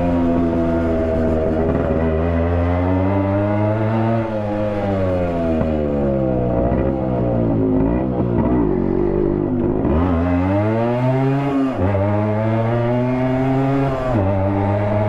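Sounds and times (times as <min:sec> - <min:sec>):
two-stroke motorcycle exhaust: 0:00.0 - 0:15.0.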